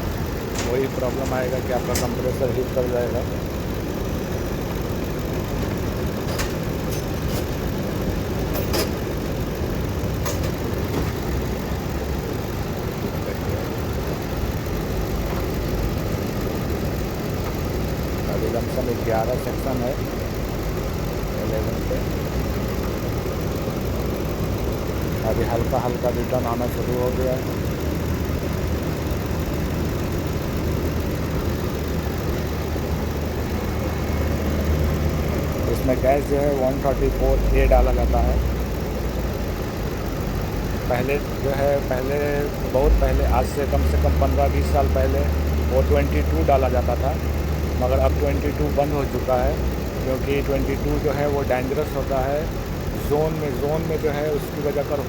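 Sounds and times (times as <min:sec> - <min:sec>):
ac compressor running: 0:00.0 - 0:55.0
car engine idling: 0:00.0 - 0:55.0.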